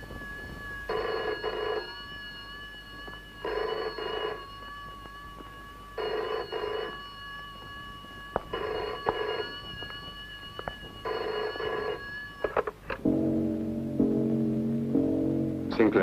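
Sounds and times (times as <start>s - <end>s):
telephone bell ringing: 0.0s - 13.0s.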